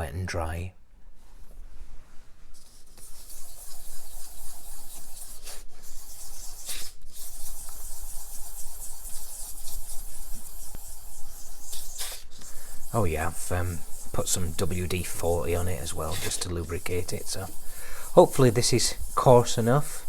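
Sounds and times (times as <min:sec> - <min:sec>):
metal plate scrubbing on sandpaper: 0:02.7 - 0:20.0.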